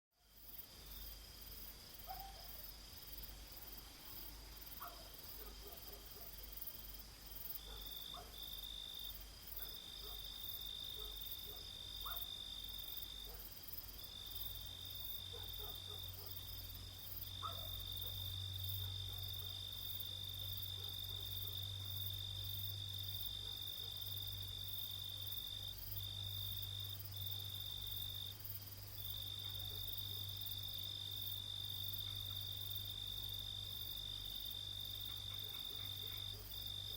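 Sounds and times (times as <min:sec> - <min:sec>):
crickets trilling: 0:00.3 - 0:36.9.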